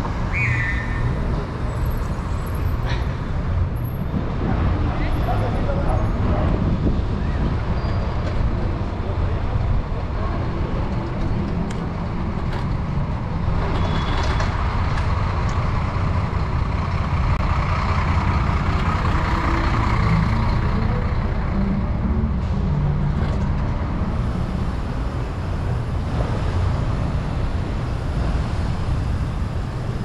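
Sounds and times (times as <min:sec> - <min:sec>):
bus engine running: 0:00.0 - 0:30.0.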